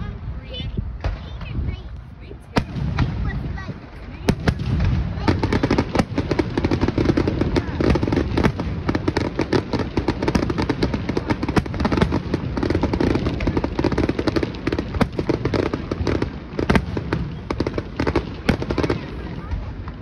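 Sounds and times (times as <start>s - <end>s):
fireworks bangs and crackles: 0.0s - 20.0s
loud firework reports: 0.0s - 20.0s.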